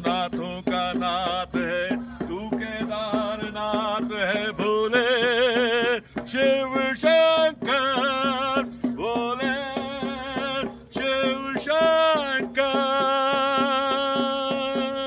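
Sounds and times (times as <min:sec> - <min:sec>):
quick percussive beat: 0:00.0 - 0:15.0.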